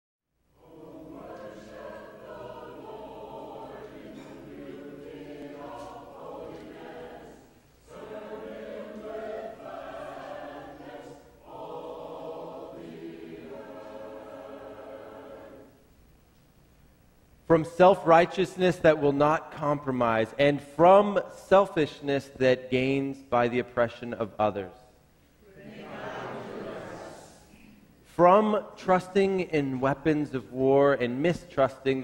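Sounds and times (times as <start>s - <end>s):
congregation singing: 0.5s - 15.9s, 17.5s - 24.8s, 25.4s - 32.0s.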